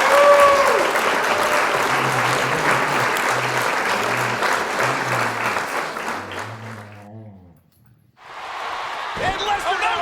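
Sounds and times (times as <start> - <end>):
crowd applauding and cheering: 0.0 - 7.0, 8.3 - 10.0.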